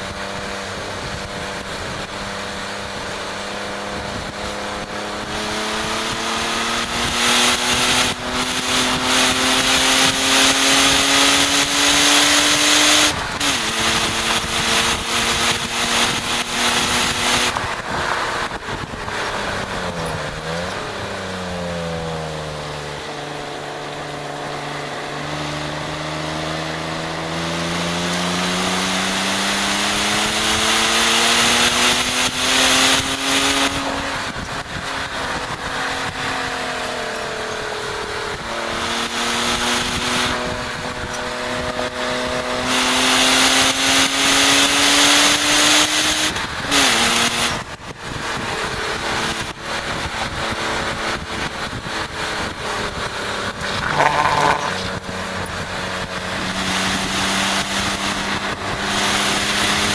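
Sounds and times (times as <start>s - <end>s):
wind noise on microphone: 0.0s - 21.7s, 29.2s - 42.8s, 43.5s - 59.9s
car engine pulling hard: 0.0s - 59.9s.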